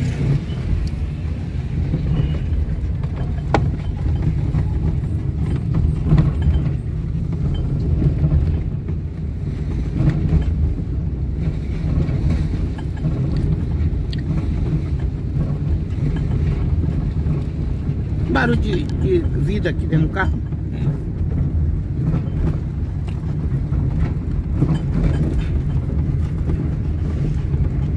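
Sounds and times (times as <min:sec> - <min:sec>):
car engine and road noise: 0:00.0 - 0:27.9.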